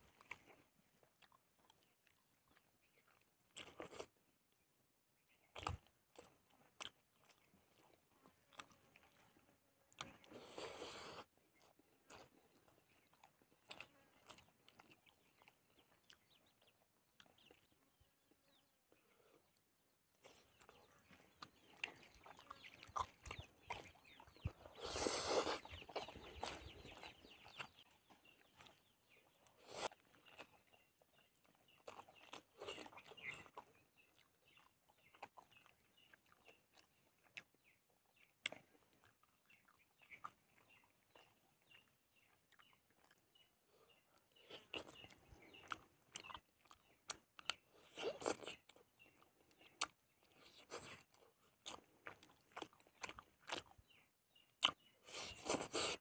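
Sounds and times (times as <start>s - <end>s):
soft chewing: 0.0s - 56.0s.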